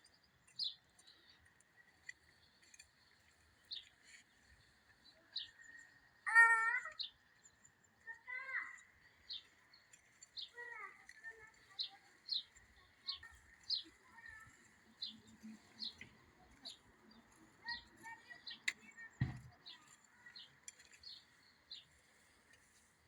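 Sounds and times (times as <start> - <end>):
bird chirping: 0.0 - 22.4.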